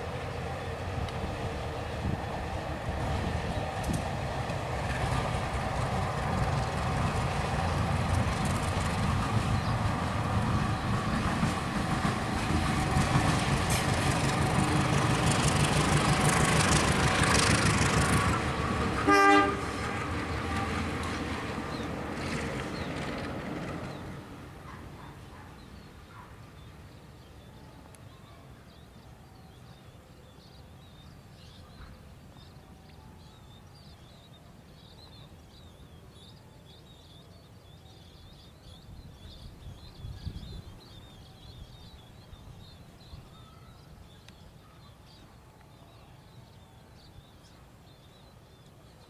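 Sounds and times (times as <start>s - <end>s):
birds chirping: 0.0s - 49.0s
distant locomotive rumble: 0.0s - 49.0s.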